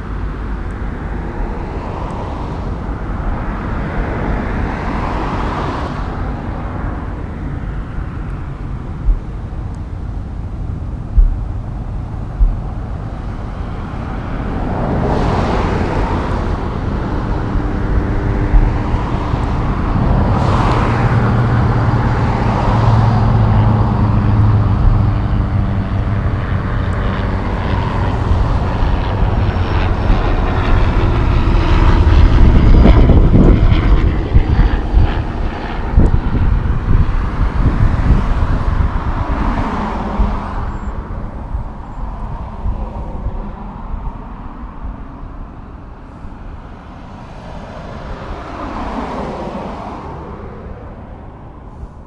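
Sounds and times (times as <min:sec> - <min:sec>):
heavy diesel truck engine: 0:00.0 - 0:44.2.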